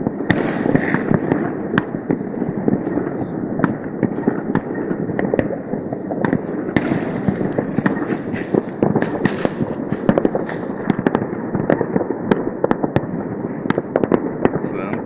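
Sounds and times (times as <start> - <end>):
firecracker bangs: 0.0 - 15.0
fireworks crackling: 0.0 - 15.0.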